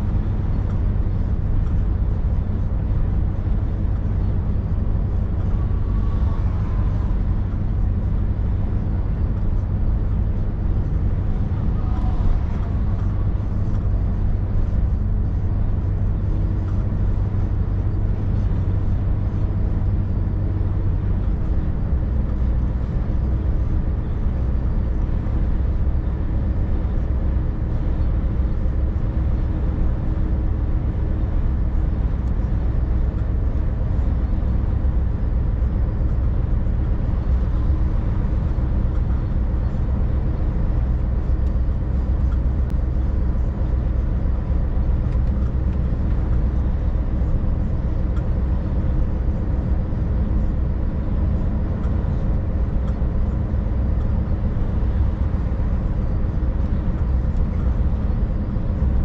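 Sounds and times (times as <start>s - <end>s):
truck diesel engine drone: 0.0s - 59.0s
tyre and road noise: 0.0s - 59.0s.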